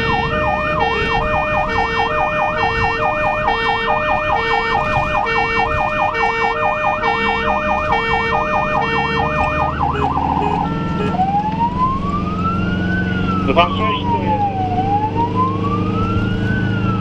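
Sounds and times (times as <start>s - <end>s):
ambulance siren: 0.0s - 17.0s
engine and road noise: 0.0s - 17.0s.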